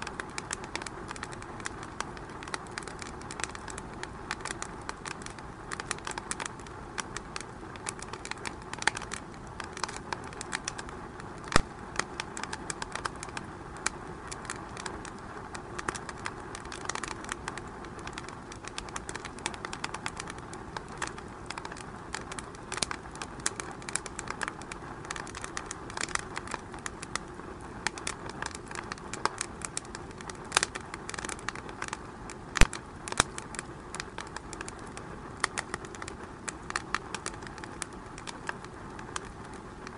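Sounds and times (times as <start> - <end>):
fire hissing: 0.0 - 39.9
wood fire crackling: 0.0 - 39.9.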